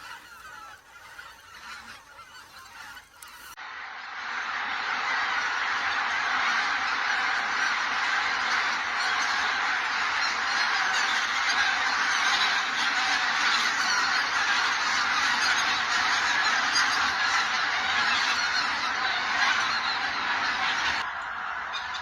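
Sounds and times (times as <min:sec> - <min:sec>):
geese honking: 0:00.0 - 0:03.6, 0:04.2 - 0:22.0.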